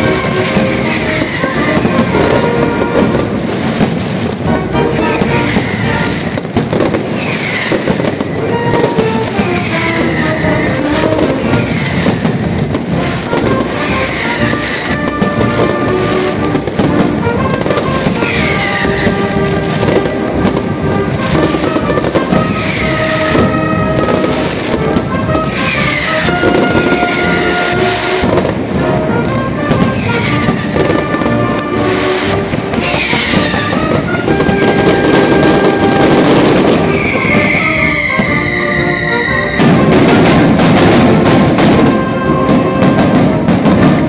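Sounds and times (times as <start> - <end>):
firecracker bangs: 0.0 - 44.0
whistling fireworks gliding down: 0.0 - 44.0.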